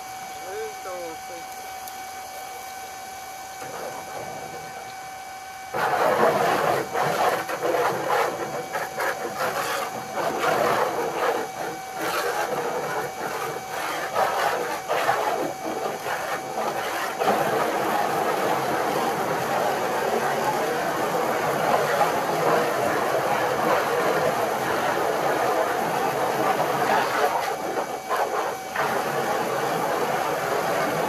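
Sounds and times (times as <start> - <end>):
steady hum: 0.0 - 31.0
pressure washer spraying wood: 3.6 - 5.0, 5.6 - 31.0.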